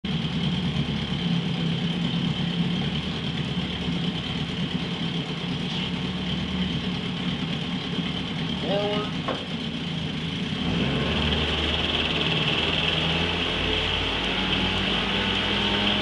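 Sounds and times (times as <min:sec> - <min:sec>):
outboard motor running: 0:00.1 - 0:16.0.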